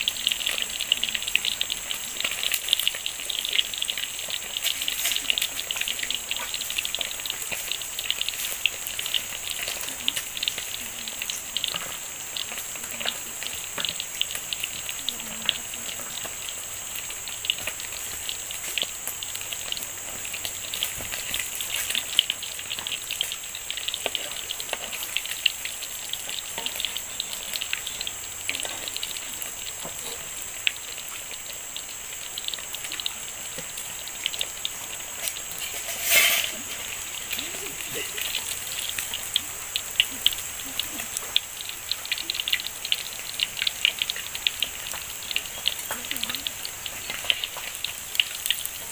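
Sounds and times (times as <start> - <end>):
high insect-like drone: 0.0 - 48.6
rushing water: 0.0 - 48.9
small crackles and clicks: 0.0 - 48.9.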